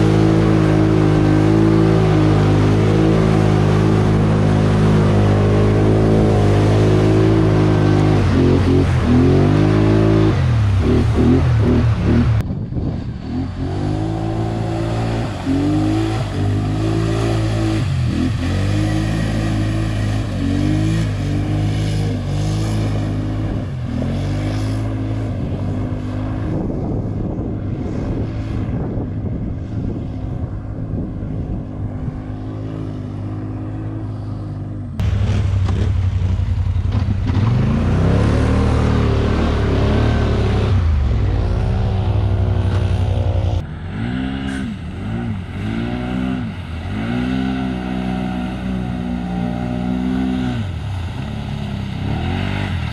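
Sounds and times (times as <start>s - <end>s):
atv engine revving: 0.0s - 29.1s, 29.8s - 52.9s.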